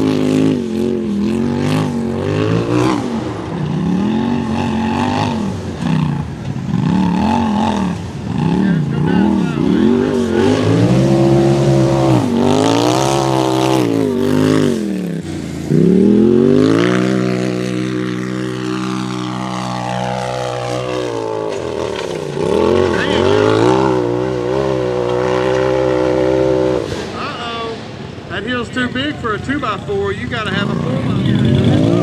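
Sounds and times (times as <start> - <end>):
utv engine revving hard: 0.0 - 27.9, 30.4 - 32.0.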